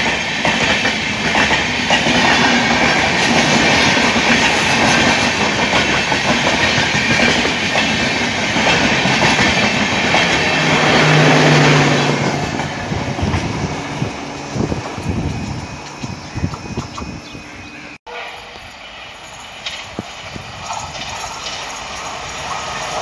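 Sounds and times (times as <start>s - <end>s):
wheels clickety-clack: 0.0s - 17.4s, 19.6s - 23.0s
train rumbling past: 0.0s - 23.0s.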